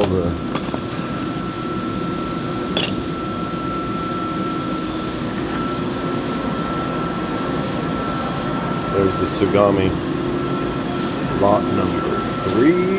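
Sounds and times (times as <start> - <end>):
mechanical drone with high whine: 0.0 - 12.9.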